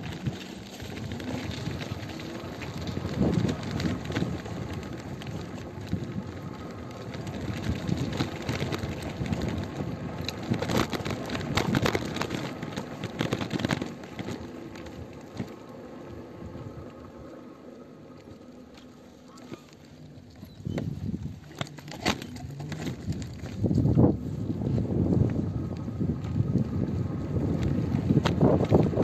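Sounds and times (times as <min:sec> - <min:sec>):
wind on phone microphone: 0:00.0 - 0:15.5, 0:20.4 - 0:21.5, 0:22.1 - 0:29.0.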